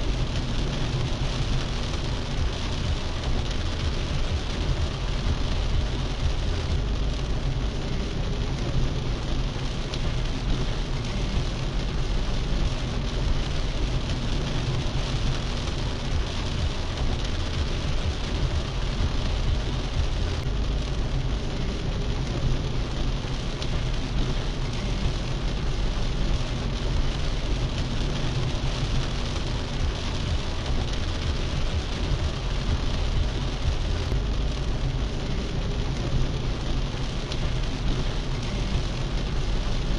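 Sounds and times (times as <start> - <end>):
car engine rumbling: 0.0 - 39.9
heavy rain on car roof: 0.0 - 39.9.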